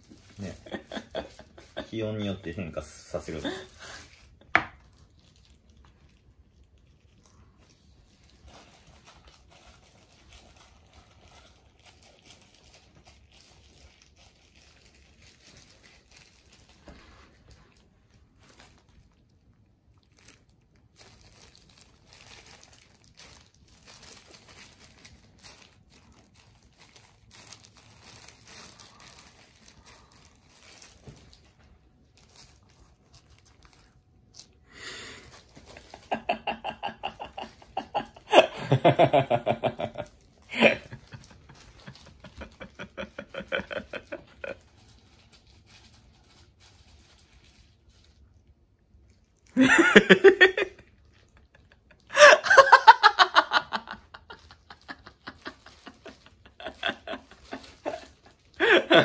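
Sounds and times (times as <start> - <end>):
plastic gloves crinkling: 0.0 - 59.0.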